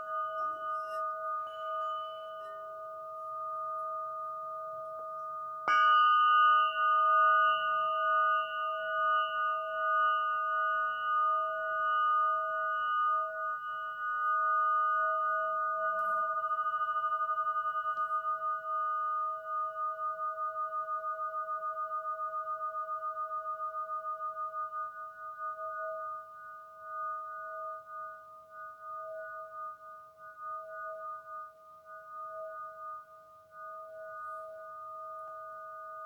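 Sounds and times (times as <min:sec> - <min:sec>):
crystal bowl struck: 0:00.0 - 0:31.4
crystal singing bowl ringing: 0:00.0 - 0:36.0.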